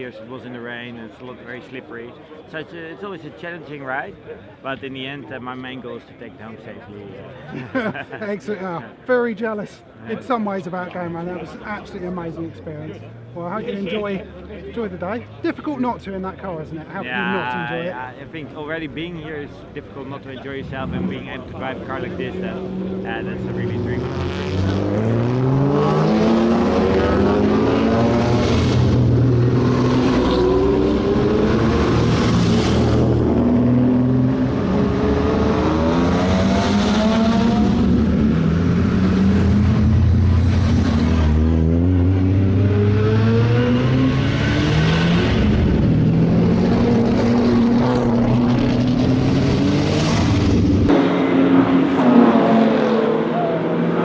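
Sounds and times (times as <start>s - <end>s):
racing car engines revving: 10.2s - 54.0s.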